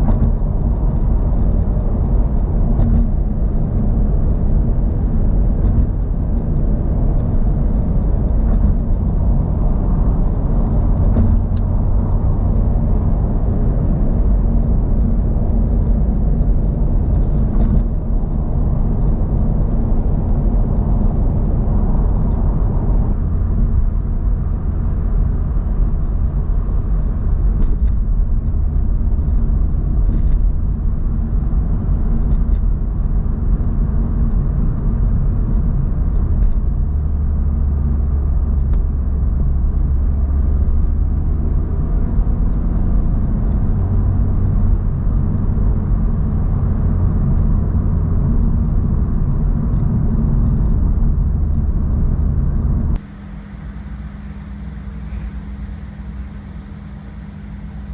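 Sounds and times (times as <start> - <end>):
car engine and road rumble: 0.0 - 57.9.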